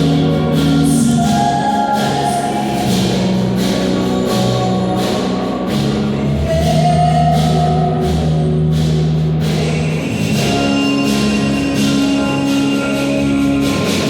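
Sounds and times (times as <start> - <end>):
band playing music: 0.0 - 14.0.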